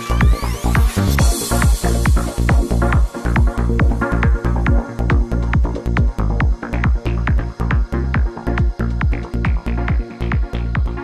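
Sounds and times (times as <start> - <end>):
kick drum beat: 0.0 - 11.0
trance dance music: 0.0 - 11.0.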